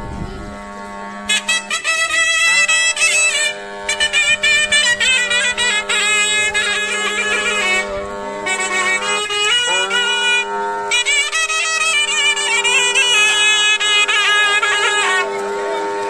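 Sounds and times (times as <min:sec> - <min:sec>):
double-reed pipe melody: 0:00.0 - 0:16.0
held drone note: 0:00.0 - 0:16.0.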